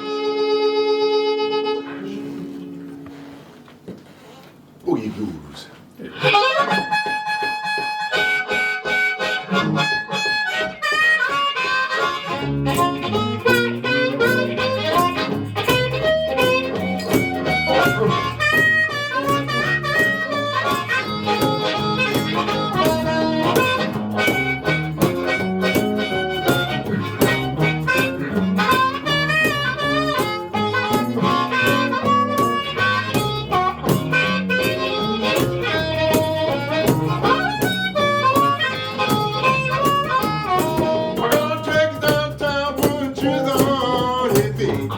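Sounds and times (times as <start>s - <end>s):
blues harmonica: 0.0s - 4.7s, 6.0s - 44.9s
guitar accompaniment: 0.0s - 4.8s, 5.8s - 44.9s
low steady rhythm part: 4.7s - 44.9s.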